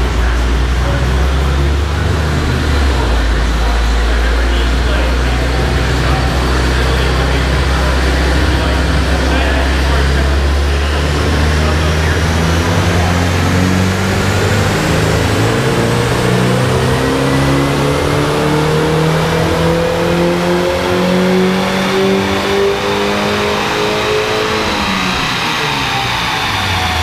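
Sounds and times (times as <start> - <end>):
engine full-throttle dyno pull: 0.0 - 27.0.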